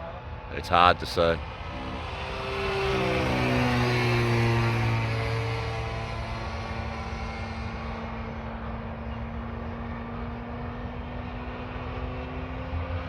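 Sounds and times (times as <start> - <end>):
model plane engine droning: 0.0 - 13.0.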